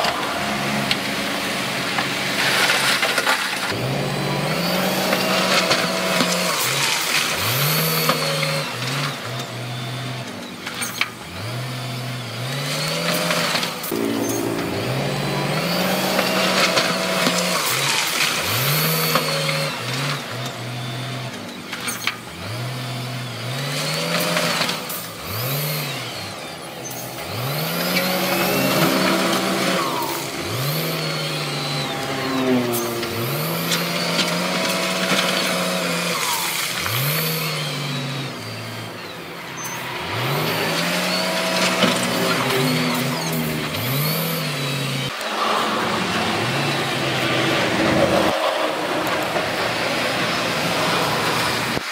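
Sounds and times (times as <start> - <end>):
engine revving: 0.0 - 51.9.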